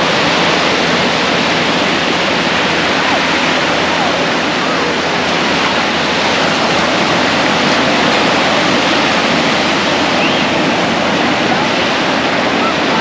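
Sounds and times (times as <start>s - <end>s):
rush of water: 0.0s - 13.0s.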